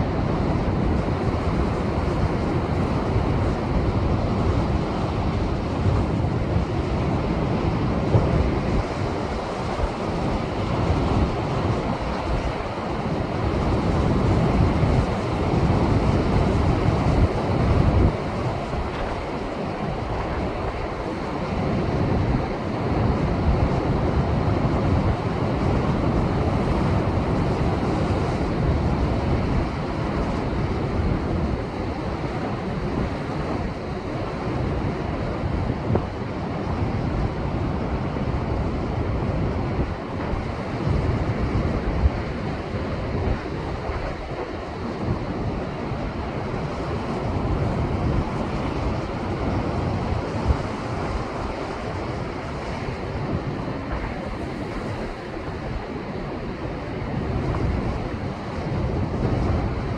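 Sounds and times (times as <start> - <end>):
wind buffeting microphone: 0.0 - 59.9
rough surf breaking on rocks: 0.4 - 6.4, 7.9 - 36.2, 39.7 - 59.9.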